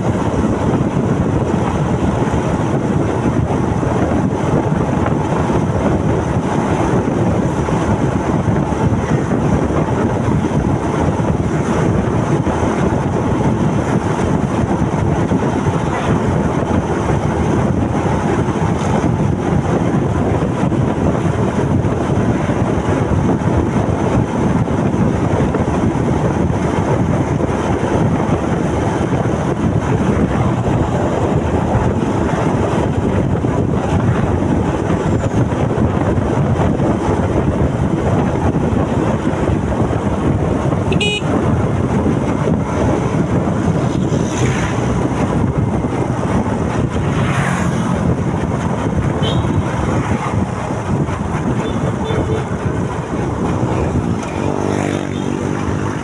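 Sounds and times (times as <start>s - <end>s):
motorcycle engine noise: 0.0s - 56.0s
road noise: 0.0s - 56.0s
wind noise on microphone: 0.0s - 56.0s.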